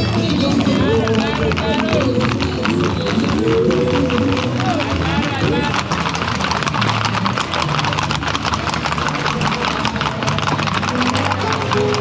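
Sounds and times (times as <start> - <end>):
horses hooves clattering: 0.0 - 12.0.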